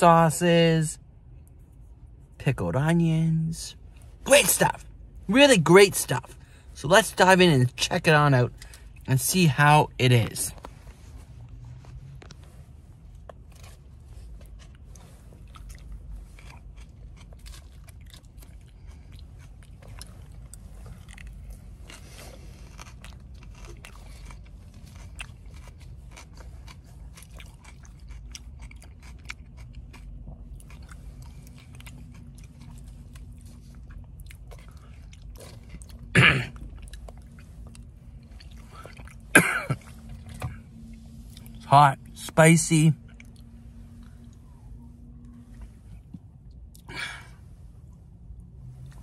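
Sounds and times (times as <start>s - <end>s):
low steady car cabin hum: 0.0s - 49.0s
chewing and crunching food: 7.7s - 49.0s.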